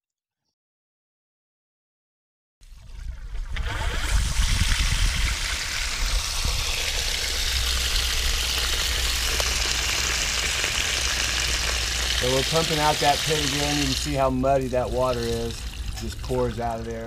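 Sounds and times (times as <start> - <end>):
water pouring onto ground: 2.6 - 17.0.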